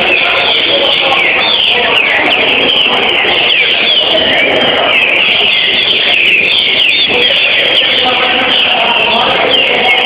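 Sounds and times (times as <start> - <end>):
birds singing whistled phrases: 0.0 - 10.0
steady background din: 0.0 - 10.0.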